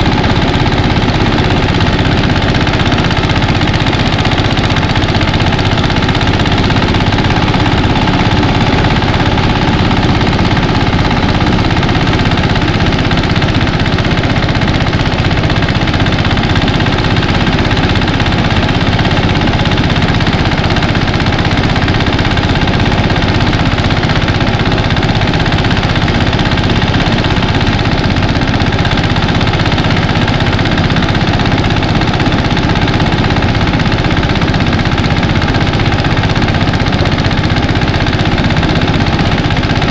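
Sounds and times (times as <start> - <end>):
rice thresher engine running: 0.0 - 39.9.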